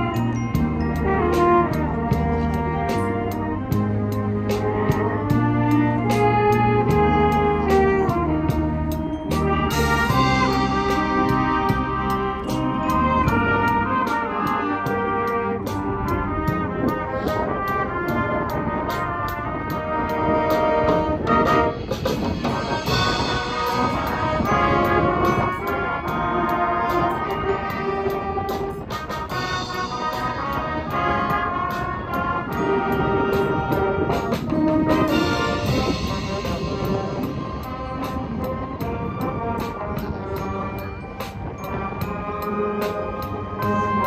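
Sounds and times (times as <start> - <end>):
drum kit: 0.0 - 26.2, 33.3 - 43.9
brass playing melody: 0.0 - 44.0.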